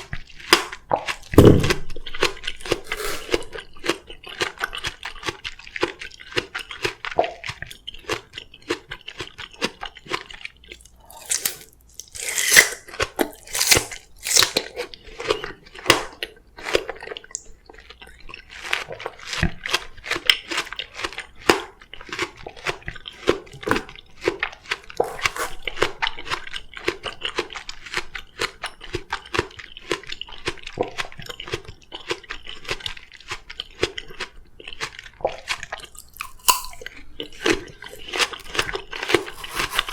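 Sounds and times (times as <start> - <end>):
crunchy chewing of melon: 0.0 - 39.9.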